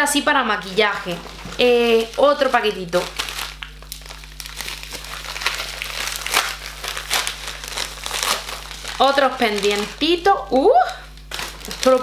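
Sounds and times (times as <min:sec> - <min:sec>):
envelope crinkling: 0:00.6 - 0:12.0.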